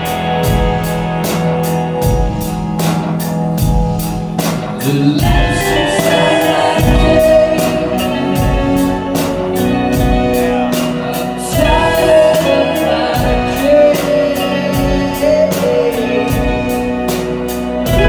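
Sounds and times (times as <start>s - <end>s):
bass guitar: 0.0s - 18.0s
drum kit beat: 0.0s - 18.0s
electric guitar chords: 0.0s - 18.0s.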